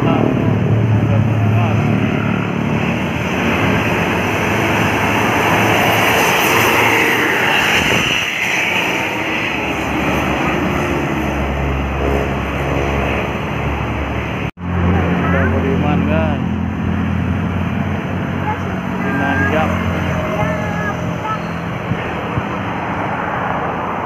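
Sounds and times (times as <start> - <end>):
engine low drone: 0.0 - 24.0
heavy road traffic passing: 0.0 - 24.0.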